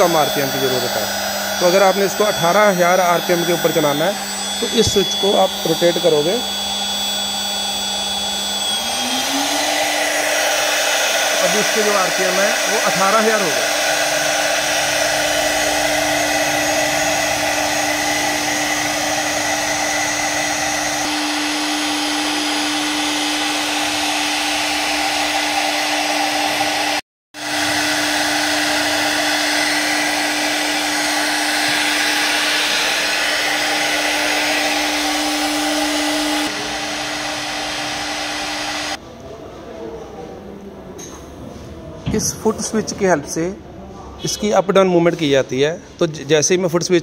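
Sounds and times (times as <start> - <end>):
router spindle whirring: 0.0 - 39.0.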